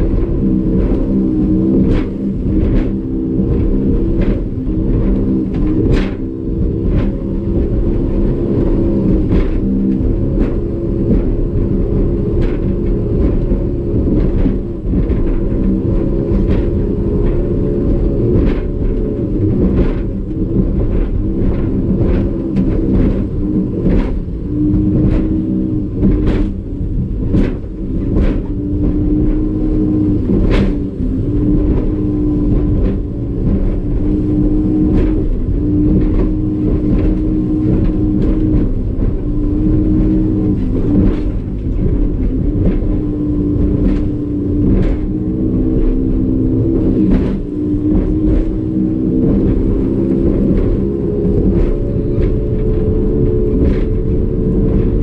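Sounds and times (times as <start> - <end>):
hull slamming knocks: 0.0 - 55.0
outboard motor running hard: 0.0 - 55.0.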